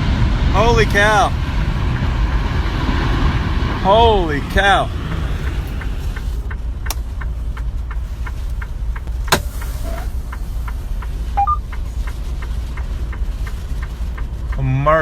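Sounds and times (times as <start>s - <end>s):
vehicle engine rumble: 0.0s - 15.0s
light regular ticking: 0.8s - 15.0s.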